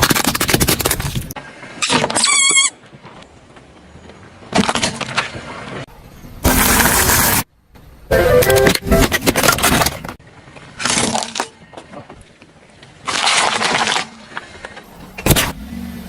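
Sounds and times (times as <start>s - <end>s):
objects crunching under car tyre: 0.0s - 7.5s, 8.2s - 15.9s.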